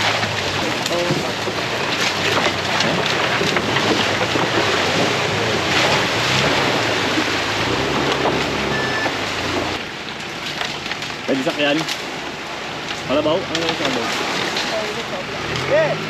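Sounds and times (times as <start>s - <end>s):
car engine low hum: 0.0s - 16.0s
tyres splashing through water and mud: 0.0s - 16.0s.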